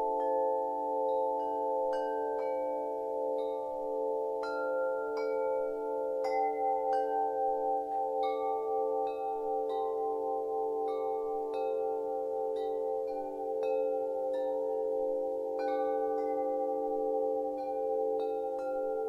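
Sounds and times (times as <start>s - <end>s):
chimes ringing: 0.0s - 19.0s.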